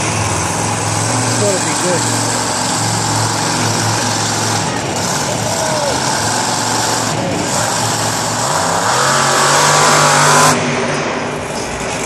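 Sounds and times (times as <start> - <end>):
stadium crowd noise: 0.0 - 12.0
truck engine revving: 0.0 - 12.0.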